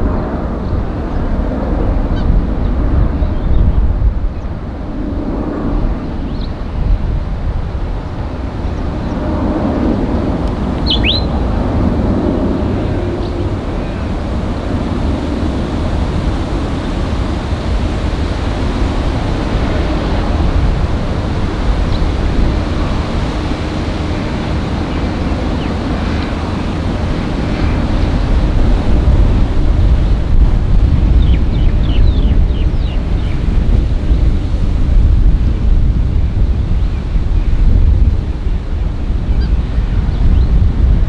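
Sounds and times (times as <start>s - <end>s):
jet engines rumbling on takeoff: 0.0s - 41.0s
wind buffeting microphone: 0.0s - 41.0s.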